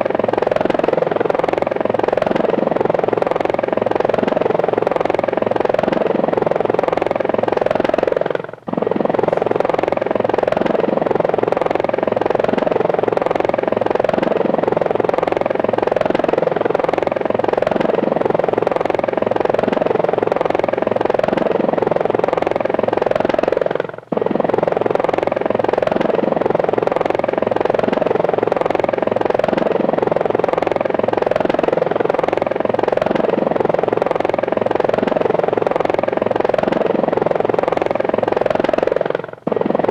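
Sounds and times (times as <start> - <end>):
drone rotors buzzing: 0.0 - 39.9.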